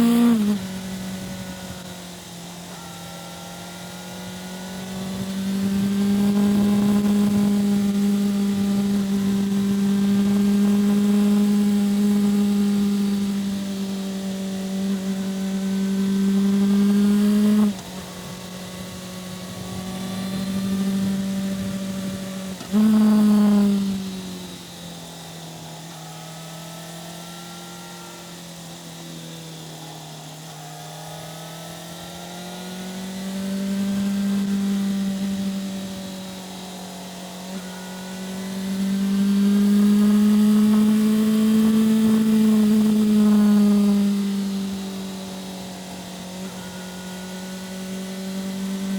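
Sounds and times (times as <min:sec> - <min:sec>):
motorcycle engine revving high: 0:00.0 - 0:48.9.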